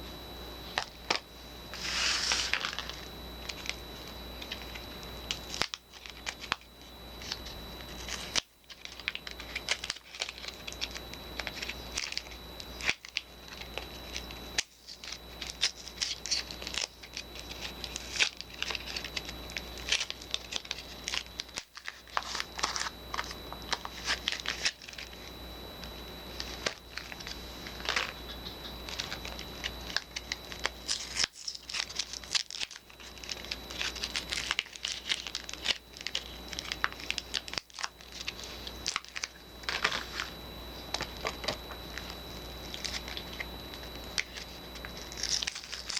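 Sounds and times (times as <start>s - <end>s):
soap wrappers crinkling and tearing: 4.4s - 25.1s, 26.4s - 45.9s.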